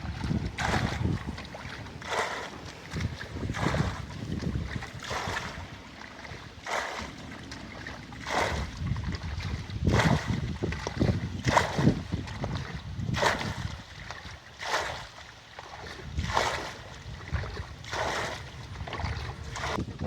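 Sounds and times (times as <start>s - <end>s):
wind rumbling on microphone: 0.0s - 15.0s, 15.7s - 20.0s
water splashing in strokes: 0.0s - 20.0s.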